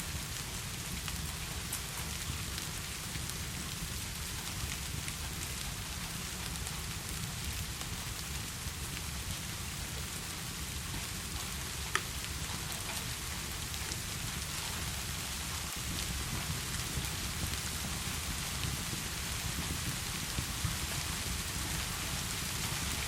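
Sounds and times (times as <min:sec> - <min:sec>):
heavy rain falling: 0:00.1 - 0:23.0.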